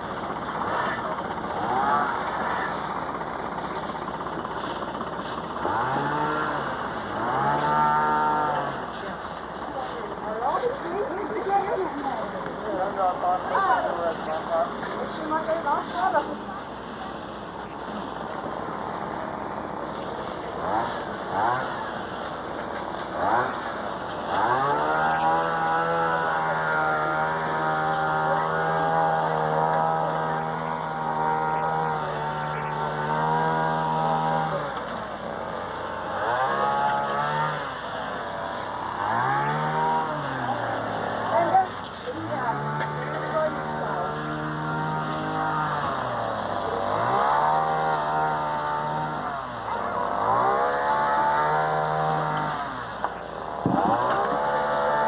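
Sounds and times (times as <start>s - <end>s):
engine revving: 0.0s - 55.0s.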